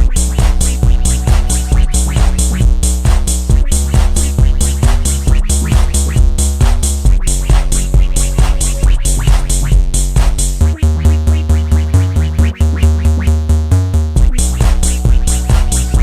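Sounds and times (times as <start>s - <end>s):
music with fast beat and bass: 0.0s - 16.0s.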